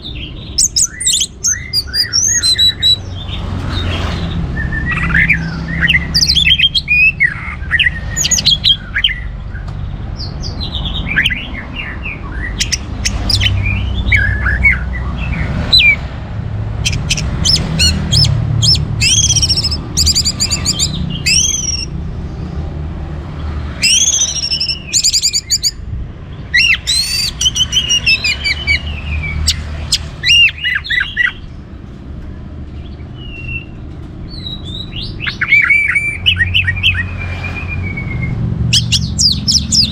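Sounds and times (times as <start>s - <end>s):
thrush singing: 0.0s - 9.3s, 10.3s - 22.1s, 23.2s - 31.6s, 32.9s - 39.9s.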